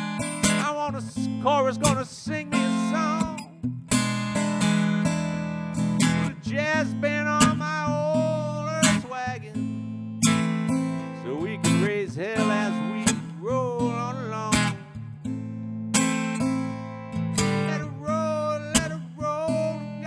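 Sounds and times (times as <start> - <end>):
fingerpicked acoustic guitar blues: 0.0 - 20.0.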